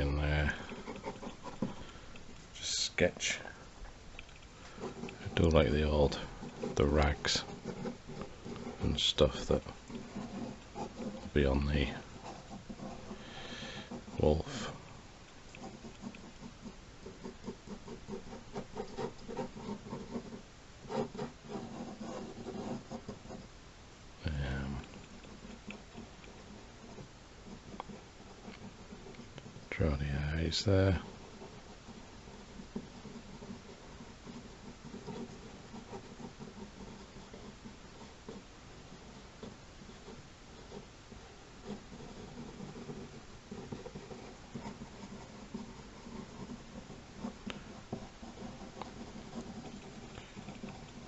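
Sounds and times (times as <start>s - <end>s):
drawing tool scratching paper: 0.0s - 2.6s, 4.6s - 14.8s, 15.4s - 23.5s, 24.4s - 29.9s, 30.5s - 51.0s.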